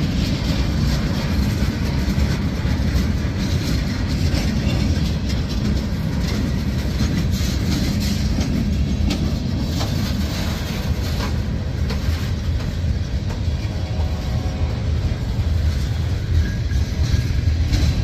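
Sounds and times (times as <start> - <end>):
freight cars rumbling: 0.0 - 18.0
wheels clacking over rail joints: 0.0 - 18.0.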